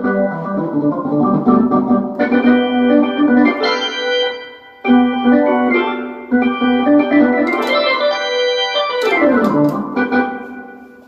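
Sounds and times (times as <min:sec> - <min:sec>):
synthesizer chords: 0:00.0 - 0:11.0.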